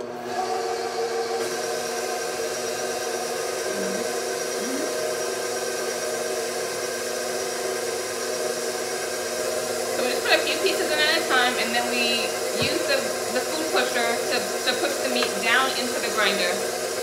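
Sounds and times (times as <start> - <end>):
mixer motor whining: 0.0 - 17.0.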